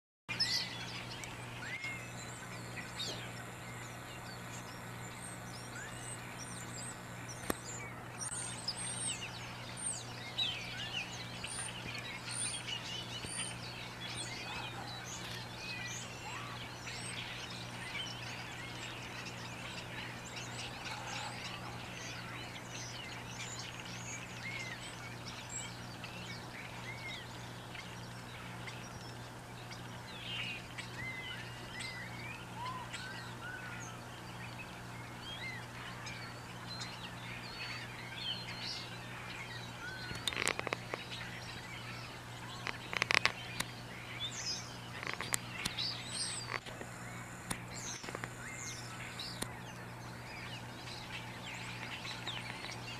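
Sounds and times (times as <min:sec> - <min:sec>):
songbirds chirping and whistling: 0:00.3 - 0:52.9
steady low hum: 0:00.3 - 0:52.9.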